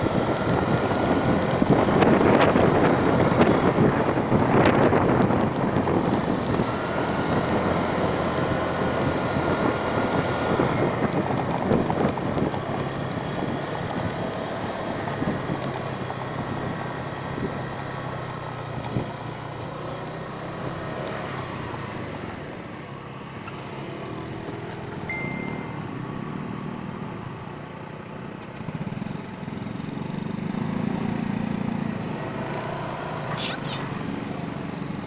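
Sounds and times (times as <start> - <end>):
small vehicle engine running: 0.0 - 35.0.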